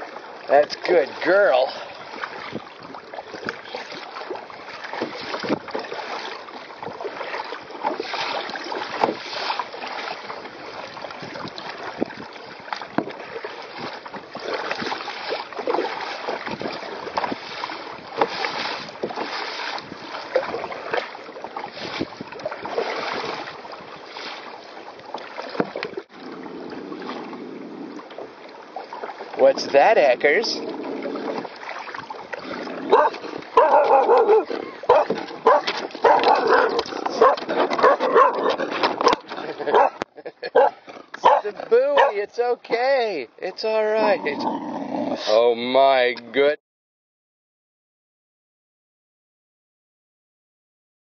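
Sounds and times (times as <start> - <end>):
water slapping against kayak hull: 0.0 - 44.4.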